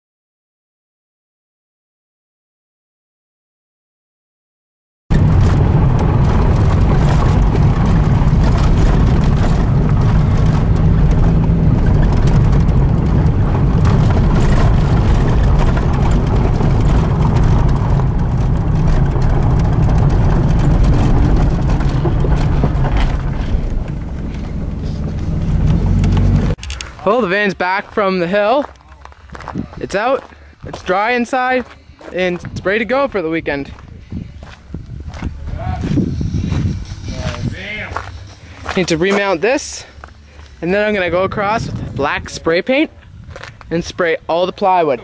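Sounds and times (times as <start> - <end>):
road noise: 5.1 - 45.0
vehicle engine rumble: 5.1 - 45.0.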